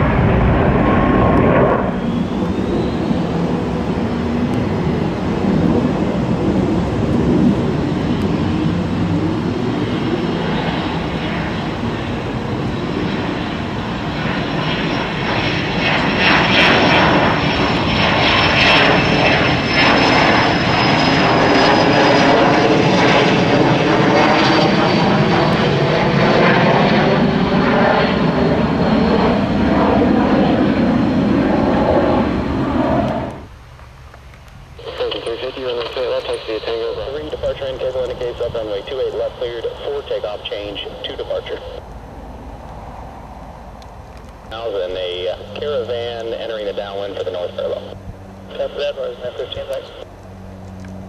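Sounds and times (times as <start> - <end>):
jet taking off: 0.0 - 34.0, 34.7 - 51.0.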